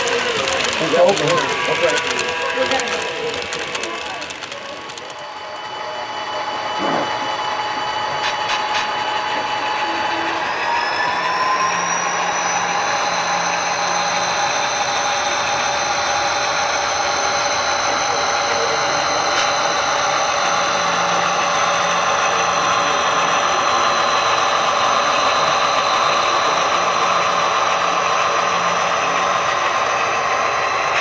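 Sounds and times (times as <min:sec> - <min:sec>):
model diesel locomotive engine: 0:00.0 - 0:31.0
model train cars rolling on track: 0:00.0 - 0:31.0.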